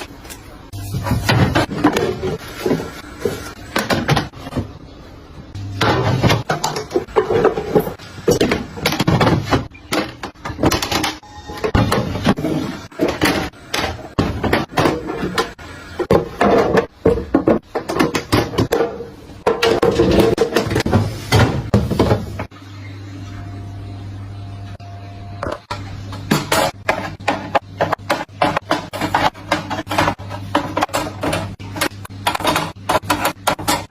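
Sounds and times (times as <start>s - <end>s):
food containers clacking and rustling: 0.0s - 4.8s, 5.8s - 22.5s, 25.5s - 33.9s
refrigerator hum: 0.0s - 33.9s.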